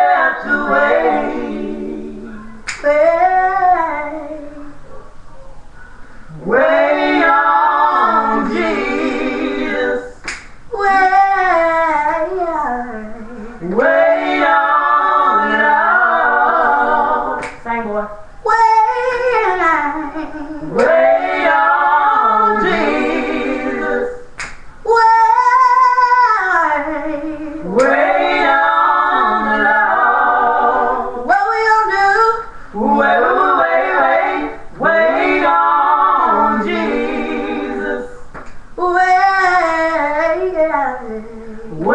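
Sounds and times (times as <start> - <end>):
woman singing gospel: 0.0 - 4.8, 6.3 - 41.9.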